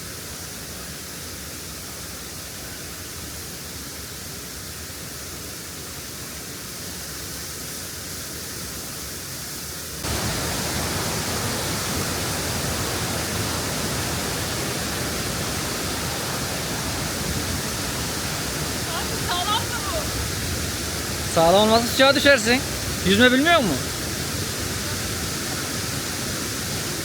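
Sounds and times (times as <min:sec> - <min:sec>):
waterfall and stream rushing: 0:01.1 - 0:27.0.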